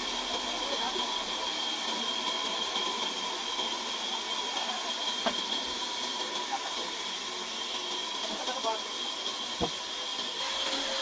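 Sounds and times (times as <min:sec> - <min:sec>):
sawmill machinery hiss and whine: 0:00.0 - 0:11.0.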